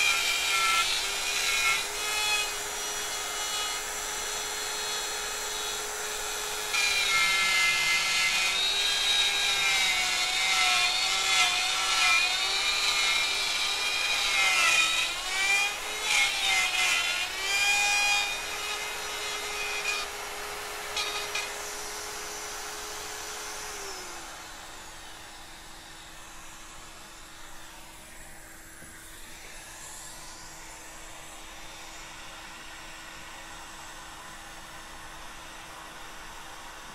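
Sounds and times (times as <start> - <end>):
wood router cutting wood: 0.0 - 36.9.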